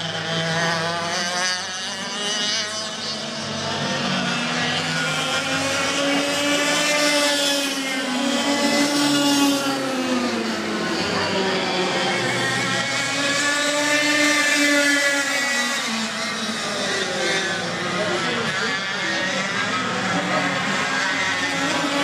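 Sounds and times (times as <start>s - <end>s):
racing kart engines: 0.0s - 22.0s.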